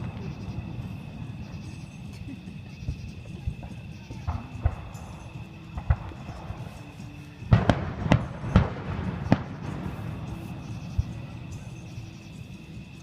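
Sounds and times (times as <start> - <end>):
distant fireworks bangs: 0.0 - 12.4.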